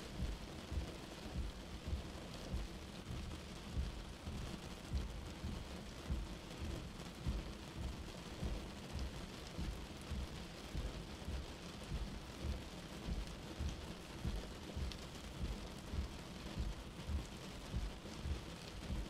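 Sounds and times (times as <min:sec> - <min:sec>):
rain hissing on glass: 0:00.0 - 0:19.0.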